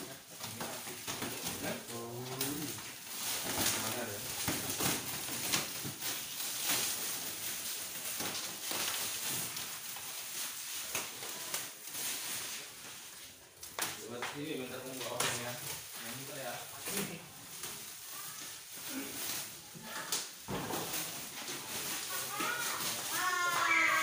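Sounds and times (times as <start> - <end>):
plastic wrap crinkling: 0.0 - 24.0.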